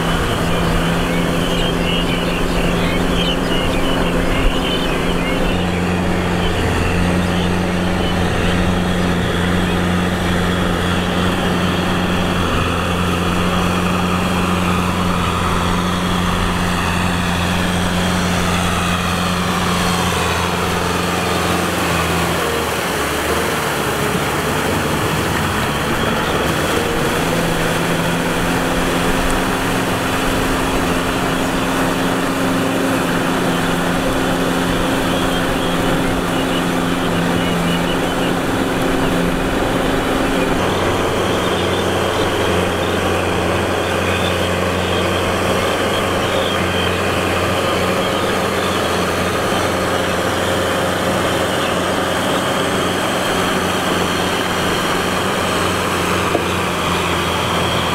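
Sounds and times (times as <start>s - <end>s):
rotavator churning wet mud: 0.0s - 57.9s
tractor diesel engine running: 0.0s - 57.9s.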